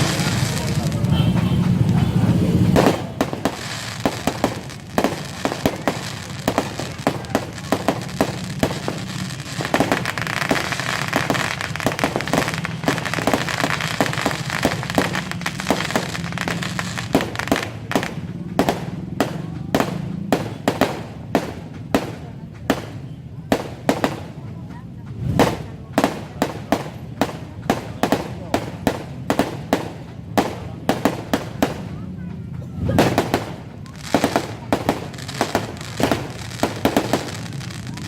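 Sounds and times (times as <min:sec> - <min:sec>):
fireworks bangs and cracks: 0:00.0 - 0:38.0
loud steady noise: 0:00.0 - 0:38.0.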